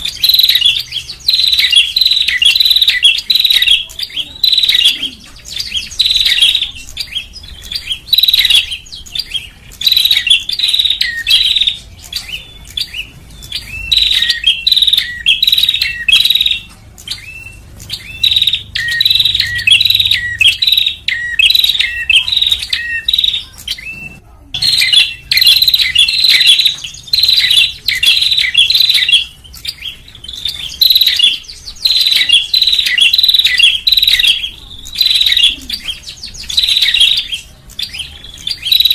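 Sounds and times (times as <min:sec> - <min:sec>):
bird sharp chirps: 0:00.0 - 0:38.9.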